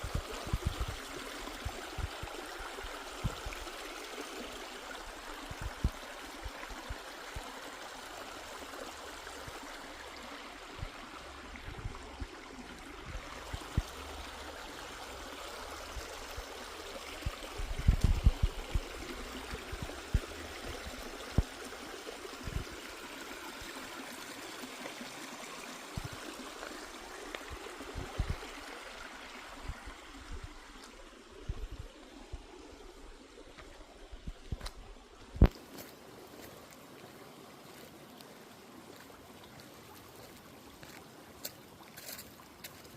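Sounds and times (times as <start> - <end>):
stream running: 0.0 - 42.9.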